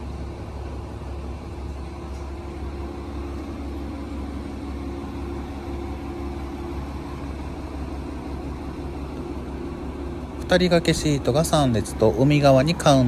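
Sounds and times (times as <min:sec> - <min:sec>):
diesel railcar engine idling: 0:00.0 - 0:13.0.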